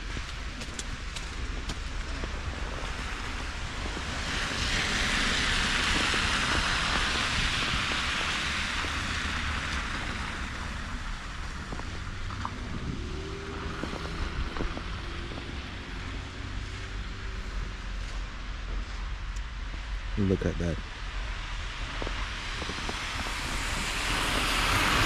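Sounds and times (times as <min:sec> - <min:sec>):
car tyres hissing on slush: 0:00.0 - 0:20.2, 0:20.9 - 0:25.0
wind rumble on microphone: 0:00.0 - 0:25.0.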